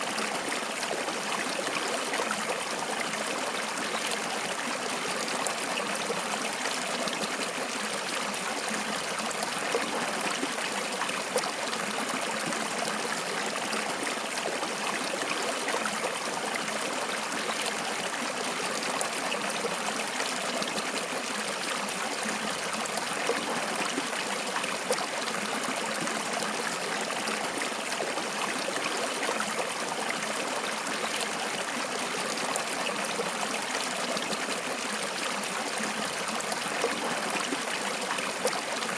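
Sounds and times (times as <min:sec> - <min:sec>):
water flowing in a stream: 0:00.0 - 0:38.9.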